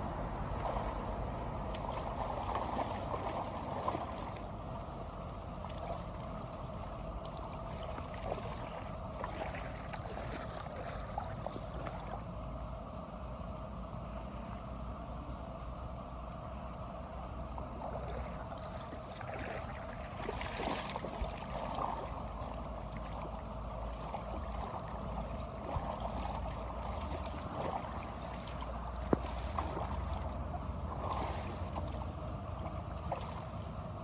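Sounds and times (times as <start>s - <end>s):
water rushing and splashing: 0.0s - 12.4s, 17.8s - 34.0s.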